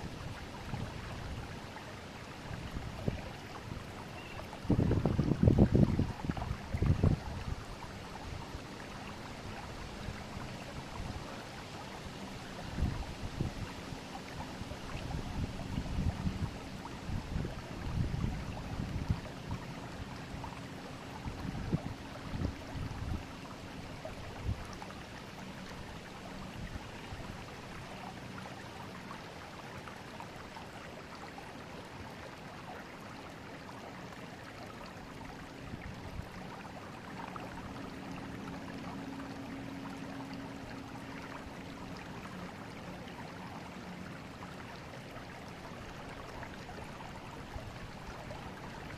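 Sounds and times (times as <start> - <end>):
river water rushing and babbling: 0.0 - 48.9.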